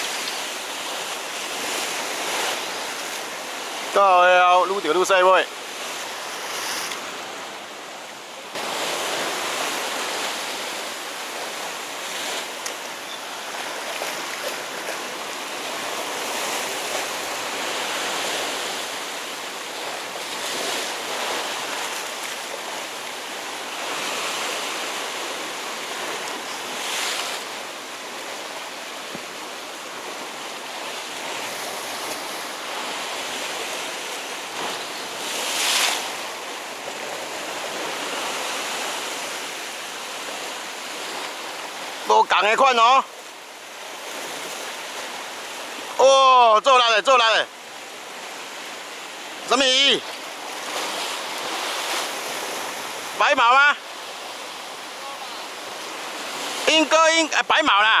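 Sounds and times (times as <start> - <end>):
waves washing against rocks: 8.5 - 58.0.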